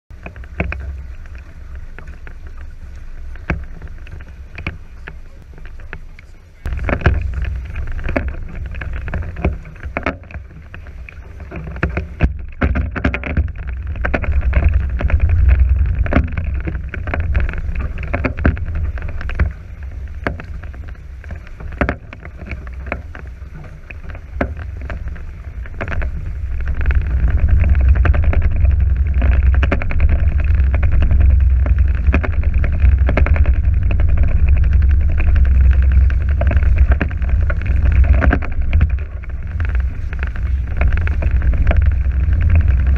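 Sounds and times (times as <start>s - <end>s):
wind rumbling on microphone: 0.0s - 42.9s
small knocks: 0.1s - 2.7s, 3.3s - 42.9s
water rushing along hulls: 0.1s - 42.9s.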